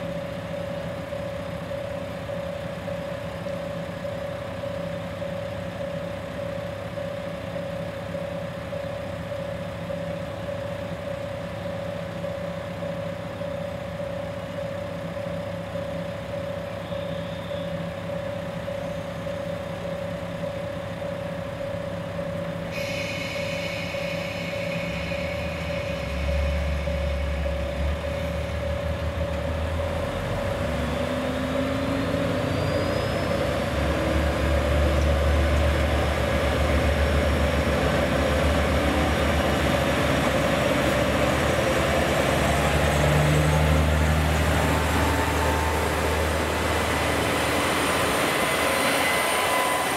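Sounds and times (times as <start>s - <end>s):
steady whine: 0.0s - 32.4s, 33.5s - 49.9s
diesel railcar engine: 0.0s - 49.9s.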